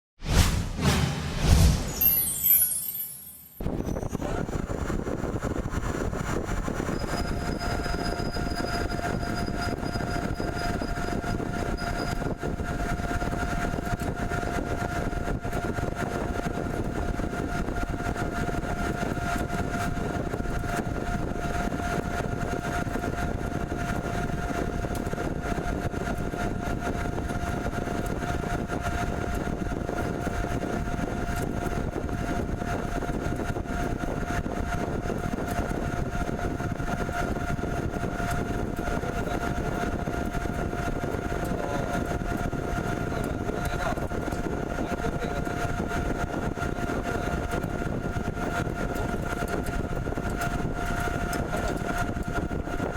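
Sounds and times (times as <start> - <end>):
machine mechanical drone: 0.2 - 52.9
steady machine whine: 0.8 - 52.9.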